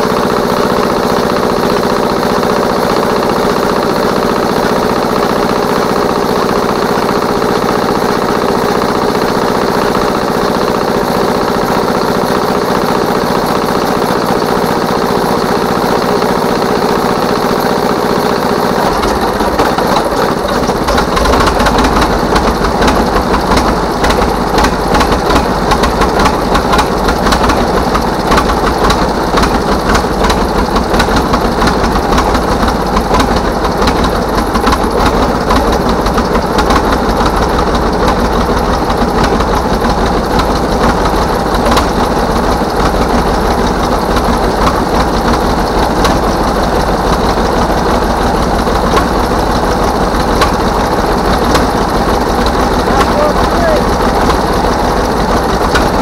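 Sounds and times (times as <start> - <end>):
diesel engine pulsing beat: 0.0 - 56.0
small gasoline motor running: 0.0 - 56.0.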